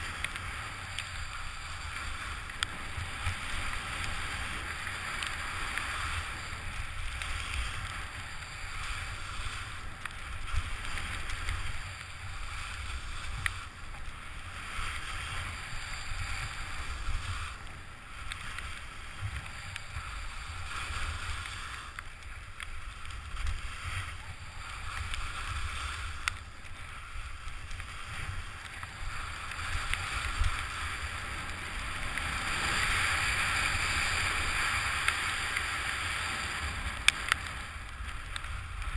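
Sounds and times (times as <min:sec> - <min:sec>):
skis sliding on snow: 0:00.0 - 0:38.9.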